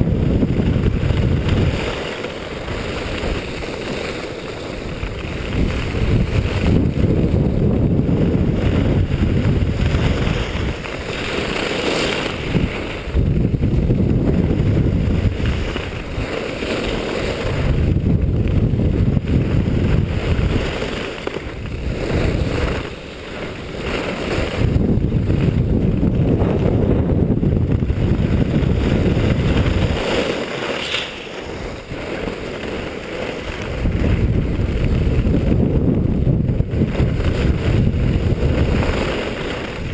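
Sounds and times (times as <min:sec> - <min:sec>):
skis scraping over snow: 0:00.0 - 0:39.9
wind buffeting microphone: 0:00.0 - 0:39.9.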